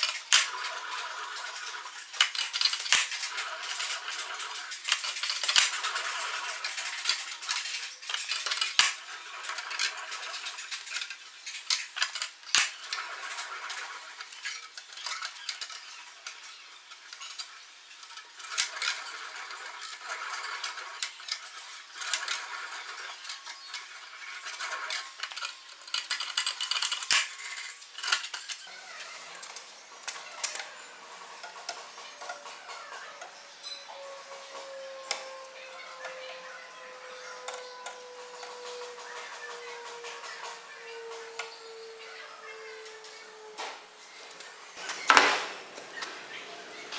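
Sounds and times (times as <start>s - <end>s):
steel strip rattling through rollers: 0.0s - 46.9s.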